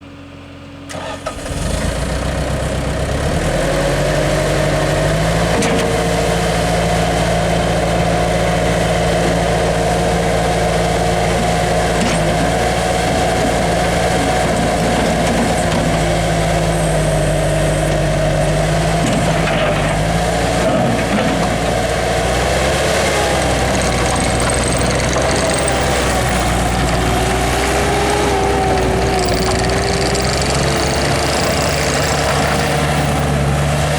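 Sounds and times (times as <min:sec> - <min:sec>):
diesel engine starting and running: 0:00.0 - 0:33.9.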